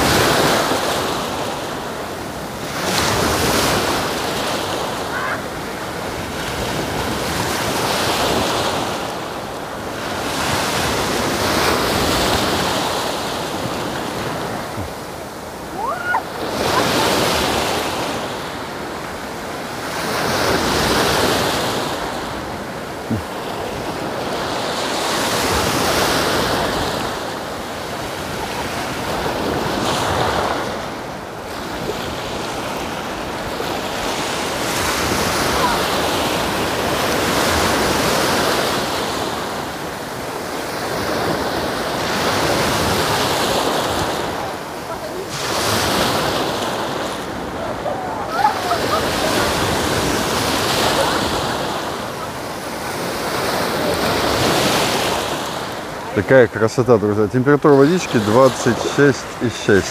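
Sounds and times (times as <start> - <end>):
surf breaking on beach: 0.0 - 59.9.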